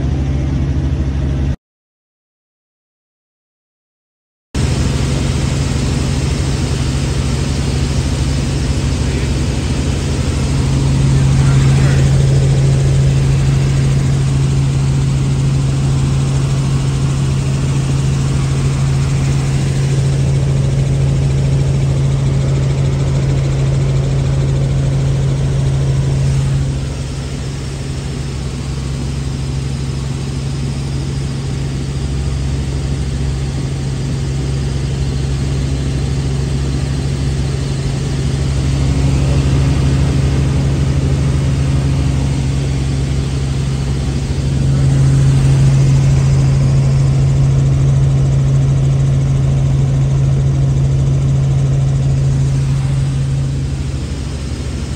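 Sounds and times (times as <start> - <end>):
helicopter cabin drone: 0.0 - 1.6, 4.6 - 54.9.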